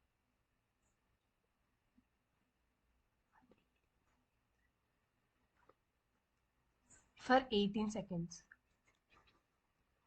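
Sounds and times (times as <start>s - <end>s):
faint recording hiss: 0.0s - 10.0s.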